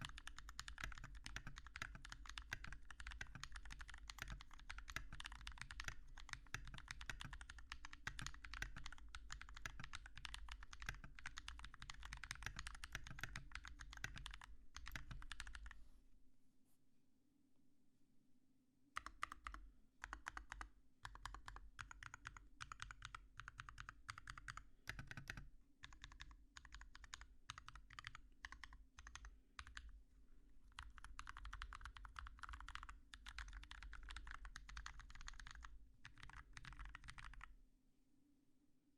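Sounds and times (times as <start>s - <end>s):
mechanical keyboard typing: 0.0s - 15.8s, 19.0s - 29.9s, 30.7s - 37.5s.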